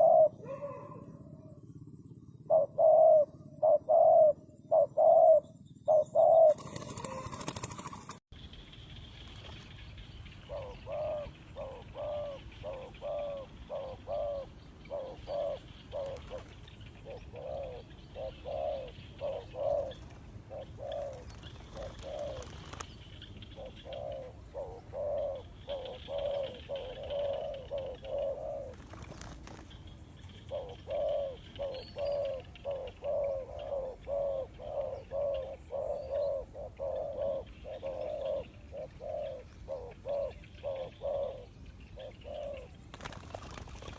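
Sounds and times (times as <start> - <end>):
dove cooing: 0.0 - 8.2, 10.3 - 29.7, 30.3 - 43.9.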